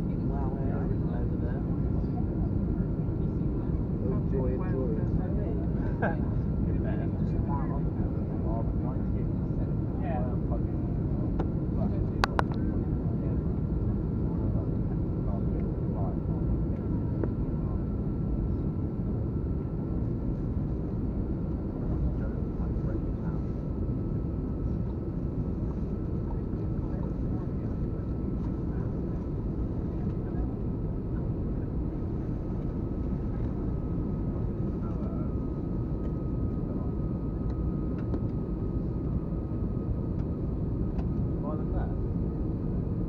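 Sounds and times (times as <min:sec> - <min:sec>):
airliner cabin noise: 0:00.0 - 0:43.0
faint steady whine: 0:00.0 - 0:43.0.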